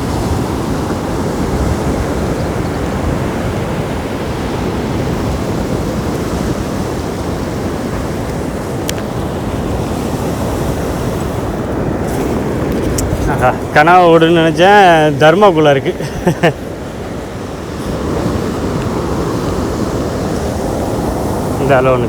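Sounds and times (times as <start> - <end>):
sea surf washing on shore: 0.0 - 22.0
wind buffeting microphone: 0.0 - 22.0.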